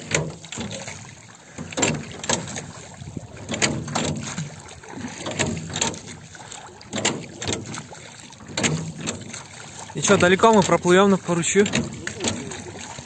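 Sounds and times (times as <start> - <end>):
boat paddle strokes splashing: 0.0 - 13.0.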